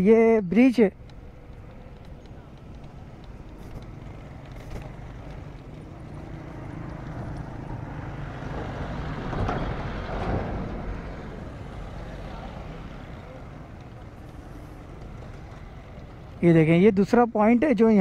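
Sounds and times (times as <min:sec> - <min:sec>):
motorcycles passing: 0:00.0 - 0:18.0.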